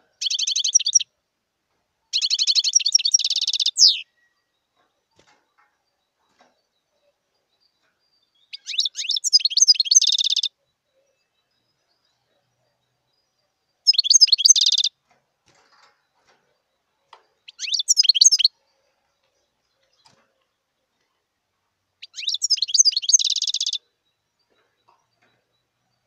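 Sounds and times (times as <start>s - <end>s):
goldfinch twittering song: 0.2s - 1.1s, 2.1s - 15.0s, 15.7s - 20.6s, 22.0s - 26.0s.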